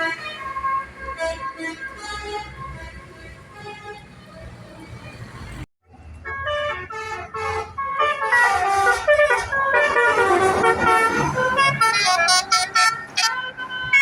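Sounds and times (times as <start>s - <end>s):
bus musical horn tune: 0.0s - 4.1s, 6.2s - 14.0s.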